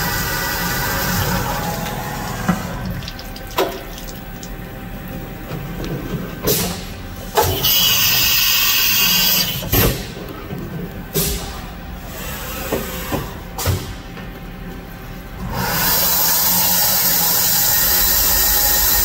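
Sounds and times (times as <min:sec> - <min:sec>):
machining center running: 0:00.0 - 0:19.0.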